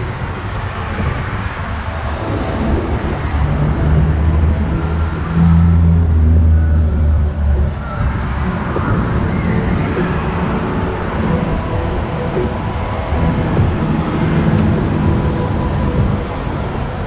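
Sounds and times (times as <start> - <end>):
steady traffic noise: 0.0 - 17.0.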